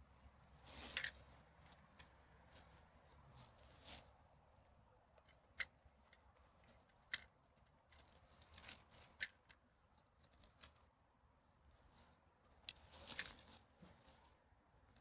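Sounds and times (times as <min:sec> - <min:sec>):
dry rustling and crackling: 0:00.0 - 0:15.0.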